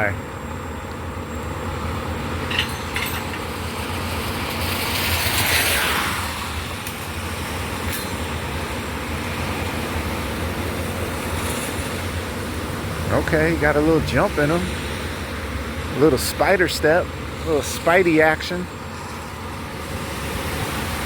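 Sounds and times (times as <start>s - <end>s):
vehicle engine idling: 0.0s - 5.0s, 6.4s - 21.0s.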